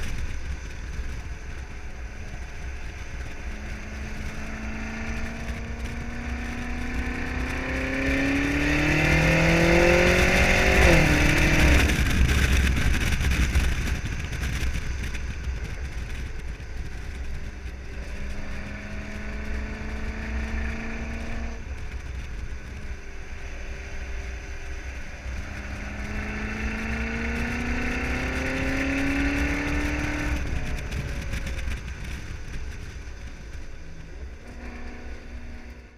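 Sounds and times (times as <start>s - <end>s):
car engine accelerating hard: 0.0s - 16.0s, 16.6s - 35.9s.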